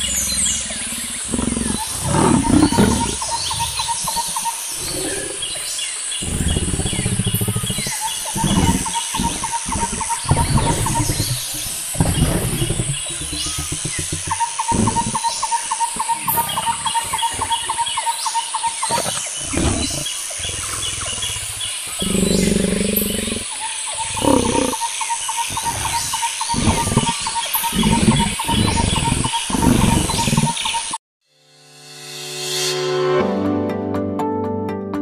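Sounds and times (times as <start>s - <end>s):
lion roaring: 0.0s - 24.8s, 25.4s - 30.8s
birds chirping: 0.0s - 31.0s.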